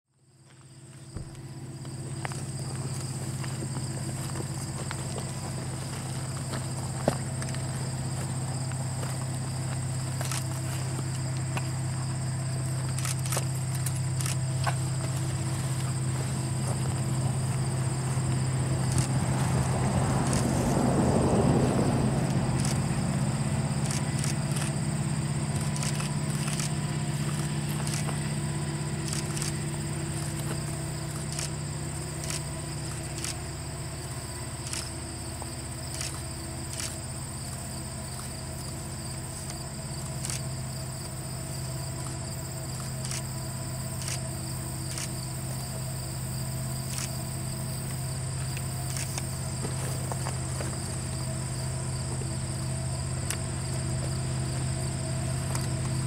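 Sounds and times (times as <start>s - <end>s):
diesel locomotive engine drone: 0.1s - 56.0s
insects buzzing and clicking: 0.2s - 56.0s.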